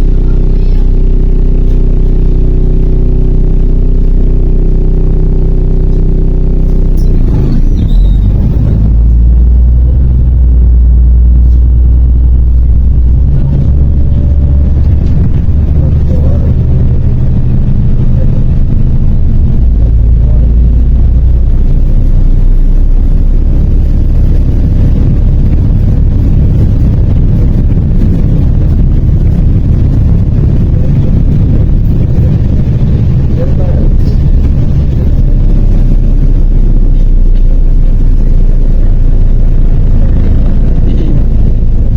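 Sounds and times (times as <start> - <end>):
bus engine drone: 0.0 - 41.9.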